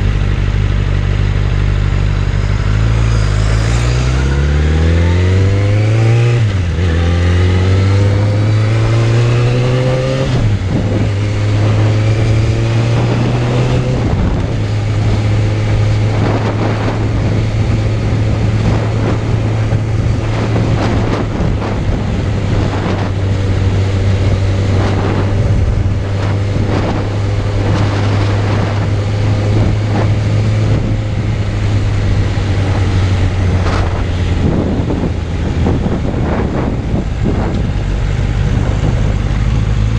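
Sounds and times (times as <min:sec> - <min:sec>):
wind noise on microphone: 0:00.0 - 0:39.9
motorcycle engine pulling: 0:02.4 - 0:39.9.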